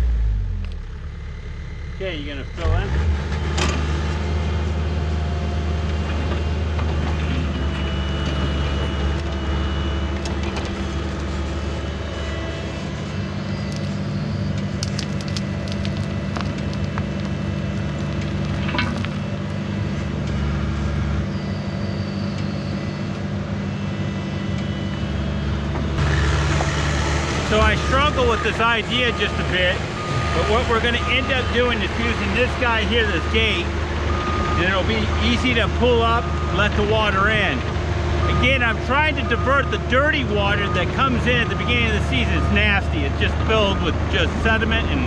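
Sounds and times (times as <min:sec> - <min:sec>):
heavy machine engine running: 0:00.0 - 0:45.0.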